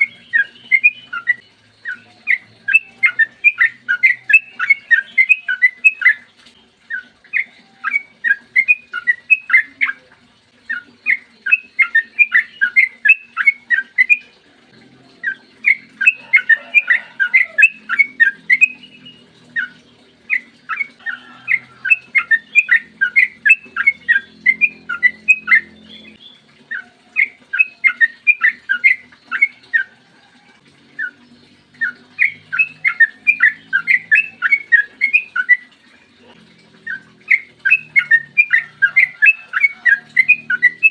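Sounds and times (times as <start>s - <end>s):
bulbul singing whistled notes: 0.0s - 14.4s, 15.1s - 30.0s, 30.9s - 36.2s, 36.8s - 40.9s.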